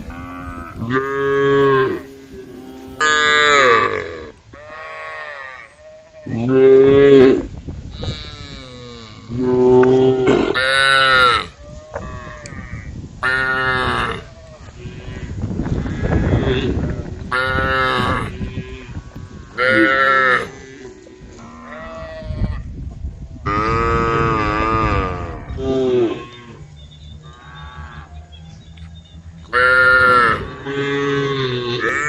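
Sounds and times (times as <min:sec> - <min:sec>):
cows mooing: 0:00.0 - 0:22.7, 0:23.5 - 0:32.0.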